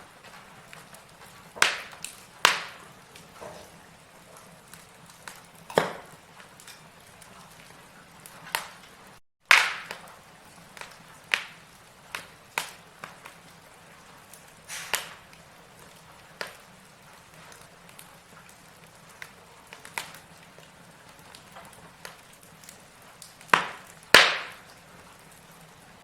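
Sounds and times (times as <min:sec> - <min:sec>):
faint fire hiss: 0:00.0 - 0:26.0
logs crackling and popping: 0:00.0 - 0:26.0.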